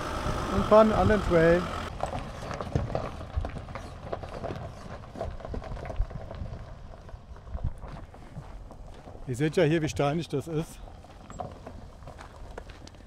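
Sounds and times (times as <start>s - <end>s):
footsteps crunching on gravel: 1.9s - 13.0s.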